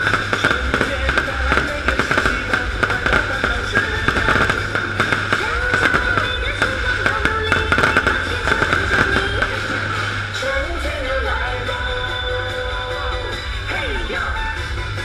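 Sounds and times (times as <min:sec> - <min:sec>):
fireworks crackling and popping: 0:00.0 - 0:13.6
music playing: 0:00.0 - 0:15.0.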